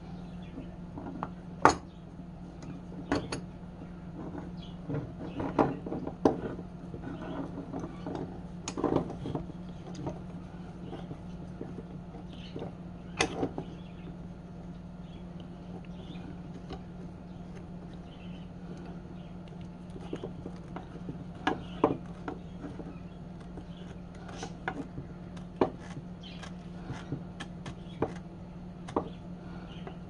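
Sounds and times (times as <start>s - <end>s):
steady low hum: 0.0s - 30.0s
hard objects clicking and knocking: 2.6s - 3.5s, 4.1s - 14.0s, 15.7s - 30.0s.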